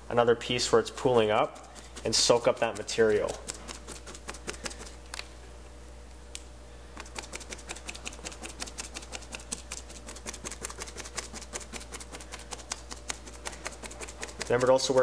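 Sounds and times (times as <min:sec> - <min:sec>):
steady low hum: 0:00.0 - 0:15.0
paintbrush dabbing: 0:00.4 - 0:05.0, 0:07.0 - 0:15.0.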